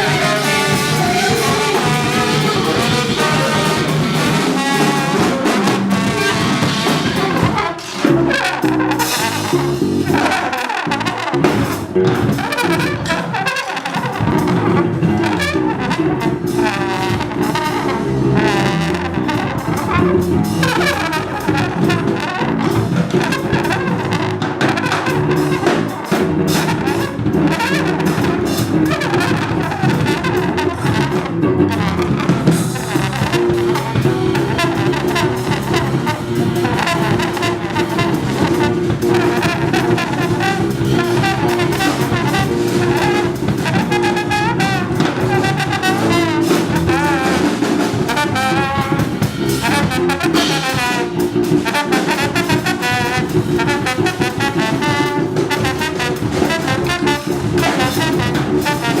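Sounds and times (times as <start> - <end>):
busy drums and cymbals: 0.0 - 59.0
double bass: 0.0 - 59.0
tenor saxophone: 0.0 - 59.0
trombone: 0.0 - 59.0.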